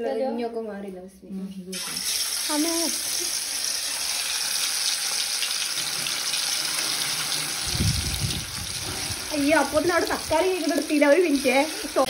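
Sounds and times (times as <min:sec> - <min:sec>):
hot oil sizzling: 0:01.7 - 0:12.0.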